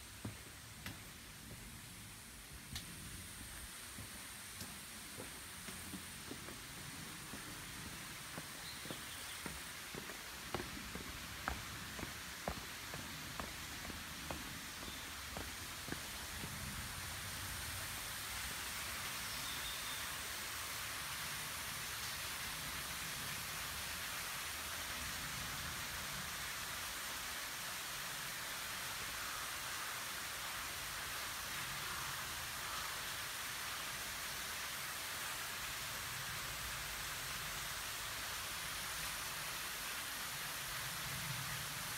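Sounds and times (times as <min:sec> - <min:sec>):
small waterfall pouring: 0:04.8 - 0:41.9.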